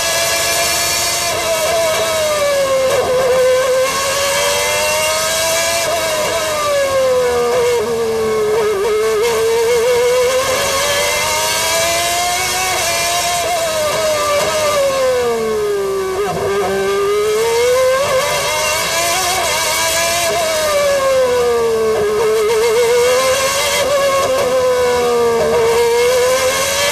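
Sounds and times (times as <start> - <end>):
racing car engine accelerating: 0.0 - 26.9.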